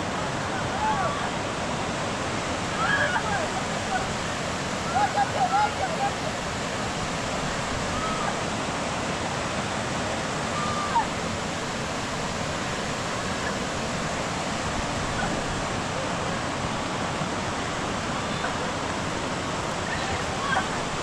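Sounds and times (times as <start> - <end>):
heavy rain: 0.0 - 21.0
running runoff water: 0.0 - 21.0.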